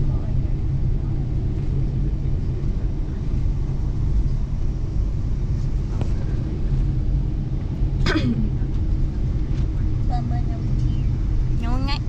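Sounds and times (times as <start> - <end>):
airliner engines rumbling in cabin: 0.0 - 12.0.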